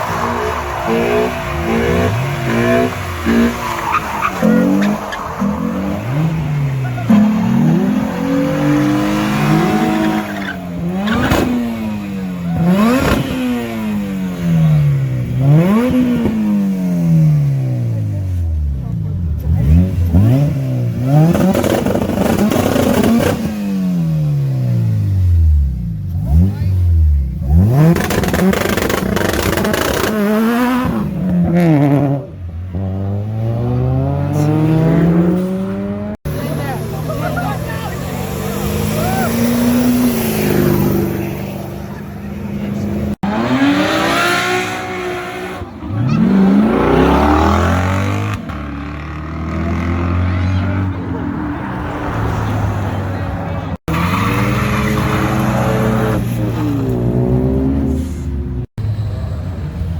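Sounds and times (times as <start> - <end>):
car engine revving: 0.0 - 59.2.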